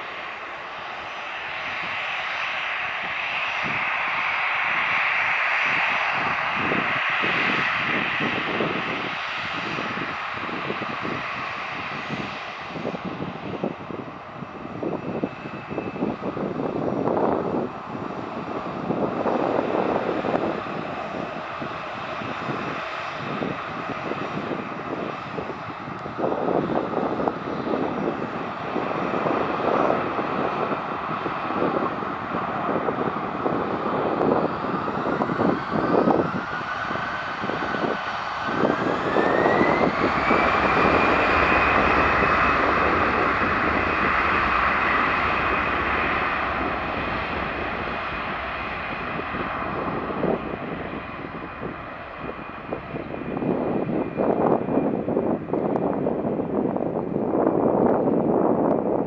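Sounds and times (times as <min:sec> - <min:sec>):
jet engines spooling up: 0:00.0 - 0:59.0
rising engine whine: 0:00.0 - 0:59.0.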